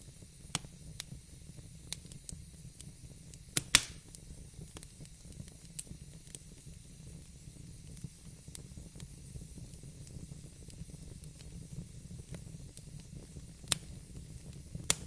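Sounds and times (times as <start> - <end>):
fire crackles and pops: 0.0 - 15.0
low fire rumble: 0.0 - 15.0.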